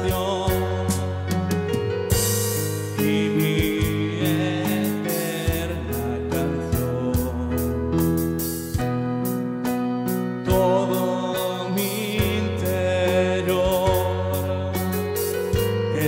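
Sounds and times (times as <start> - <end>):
gospel music with drum beat: 0.0 - 16.0.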